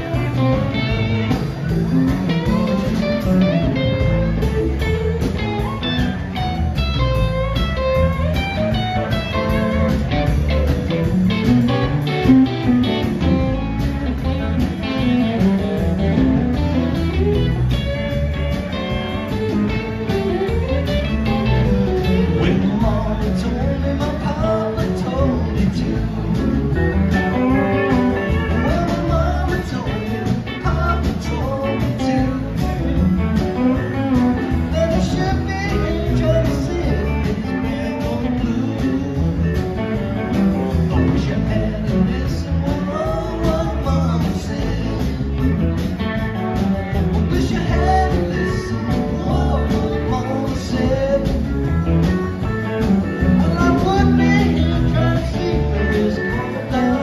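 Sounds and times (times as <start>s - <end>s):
live blues-rock band: 0.0s - 57.0s.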